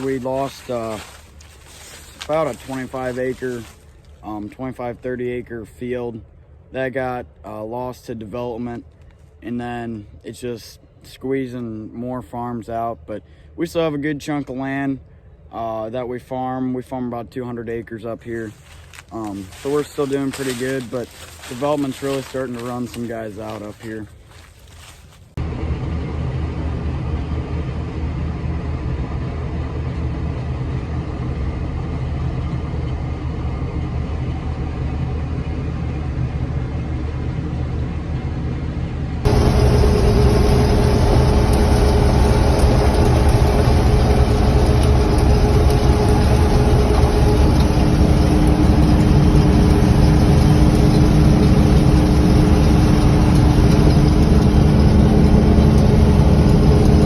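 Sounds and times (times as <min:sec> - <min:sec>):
engine whine: 0:00.0 - 0:07.5, 0:18.3 - 0:57.0
farm machinery engine humming: 0:00.0 - 0:10.6, 0:17.9 - 0:57.0.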